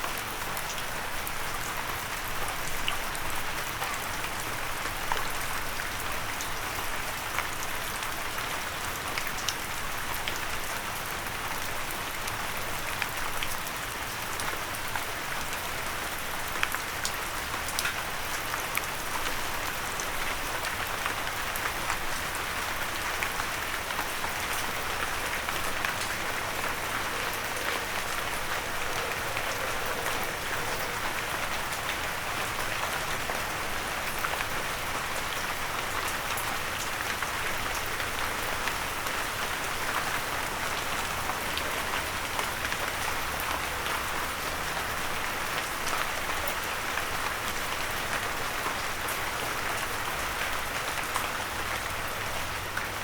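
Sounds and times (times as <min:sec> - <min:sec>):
rain pattering on a windowsill: 0:00.0 - 0:53.0.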